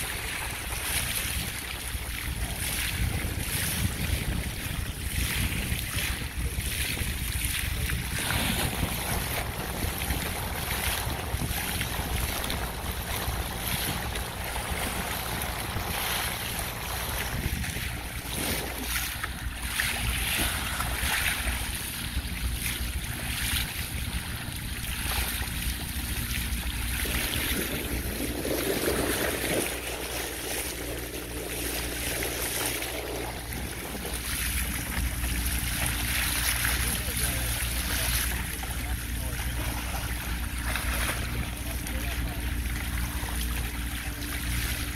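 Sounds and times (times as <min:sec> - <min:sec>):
bow wave hissing and splashing: 0:00.0 - 0:44.9
wind buffeting microphone: 0:00.0 - 0:44.9.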